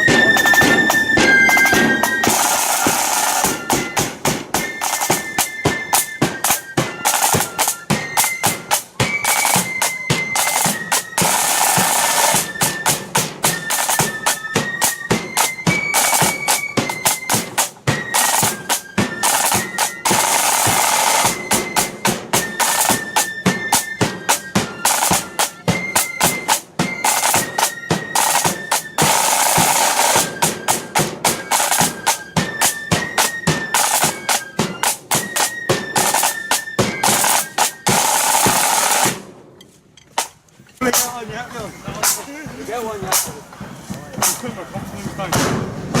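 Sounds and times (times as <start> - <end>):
flutes playing high melody: 0.0 - 39.2, 40.8 - 45.4
snare drums beating: 0.0 - 39.5, 40.2 - 46.0.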